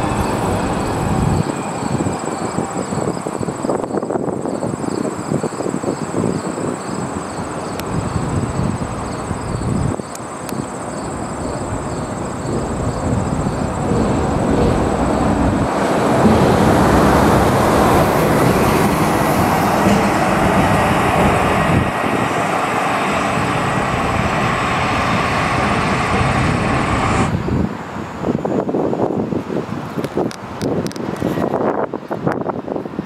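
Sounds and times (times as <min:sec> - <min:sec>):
moving vehicle rumble: 0:00.0 - 0:05.8, 0:06.7 - 0:32.0.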